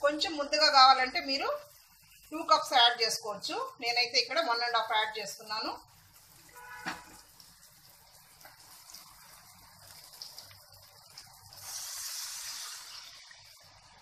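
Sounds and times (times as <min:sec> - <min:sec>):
water hissing in a hot pan: 0:00.0 - 0:14.0.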